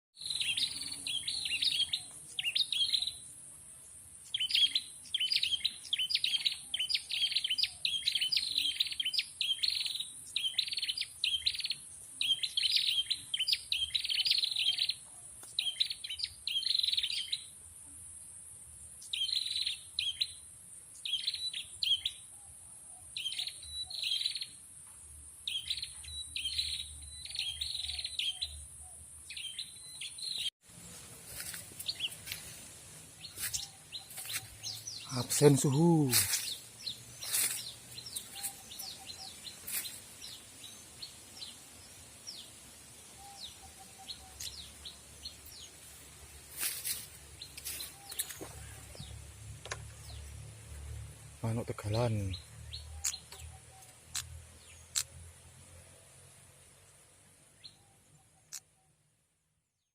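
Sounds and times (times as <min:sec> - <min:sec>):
bird chirping sharp phrases: 0:00.2 - 0:17.6, 0:18.9 - 0:24.6, 0:25.4 - 0:59.2.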